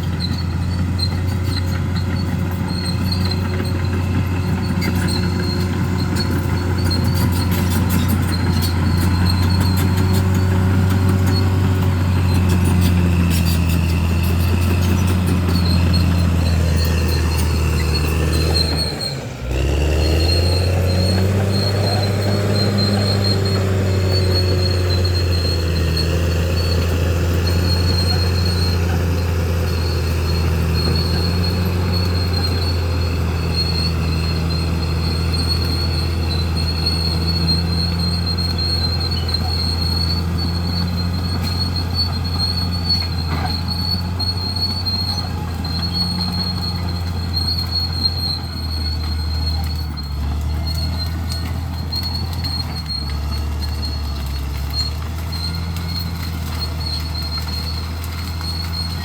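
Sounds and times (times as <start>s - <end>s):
bulldozer diesel engine drone: 0.0s - 59.0s.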